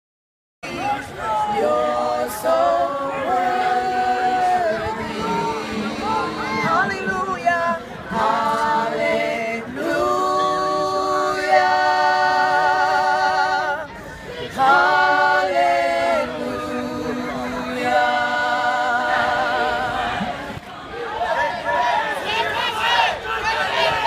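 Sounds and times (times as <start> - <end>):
women singing unaccompanied: 0.9 - 20.5.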